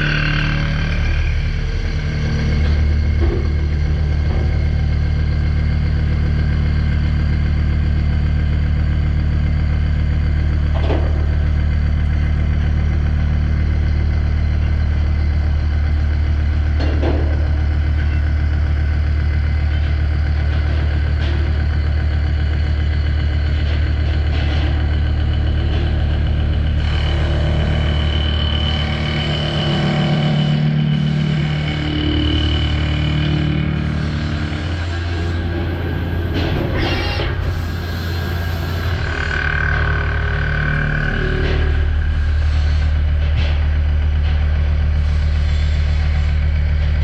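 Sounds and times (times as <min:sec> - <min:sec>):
machining centre humming: 0:00.0 - 0:47.0.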